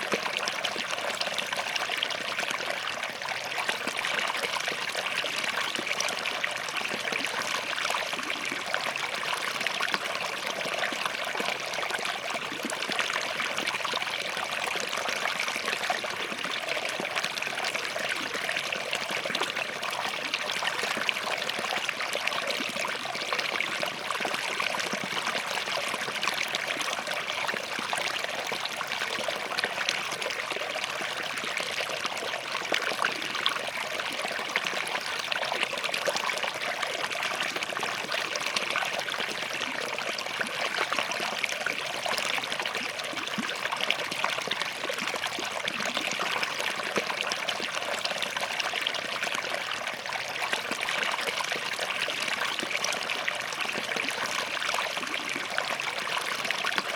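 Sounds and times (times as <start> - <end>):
stream flowing between rocks: 0.0 - 56.9.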